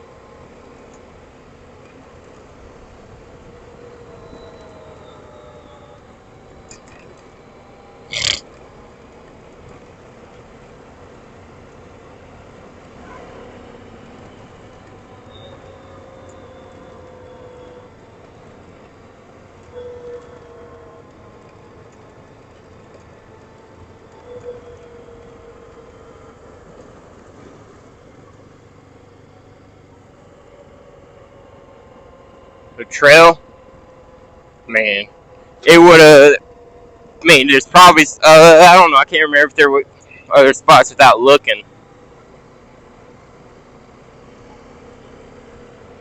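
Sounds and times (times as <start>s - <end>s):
atv engine running: 0.0s - 46.0s.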